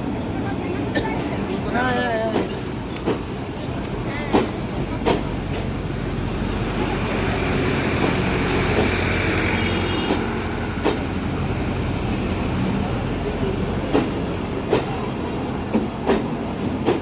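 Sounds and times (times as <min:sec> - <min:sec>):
train engine hum and rumble: 0:00.0 - 0:17.0.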